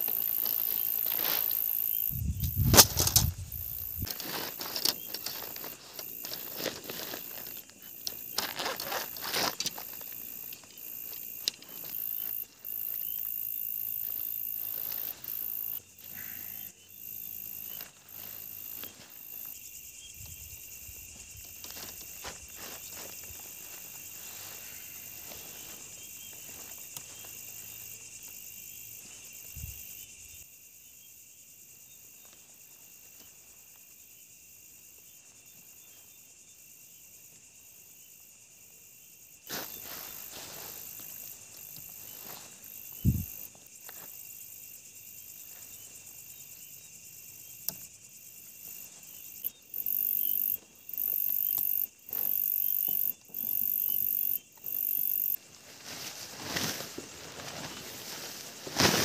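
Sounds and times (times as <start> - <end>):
crickets and insects chirring: 0.0 - 59.0
very high insect call pulsing: 0.0 - 59.0.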